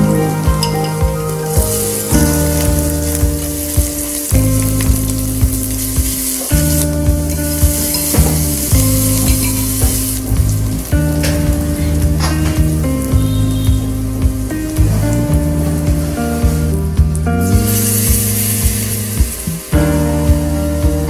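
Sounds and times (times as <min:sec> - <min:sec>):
background music with steady beat: 0:00.0 - 0:21.0
shallots sizzling in hot oil: 0:00.3 - 0:21.0.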